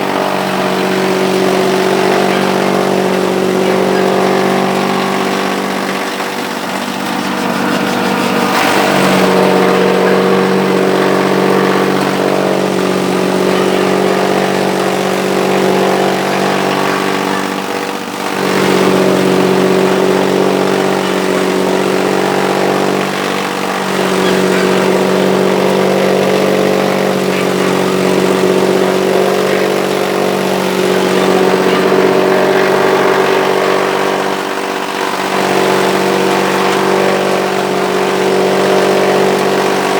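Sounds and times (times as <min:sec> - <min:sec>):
chaff cutter machine hum: 0:00.0 - 0:39.9.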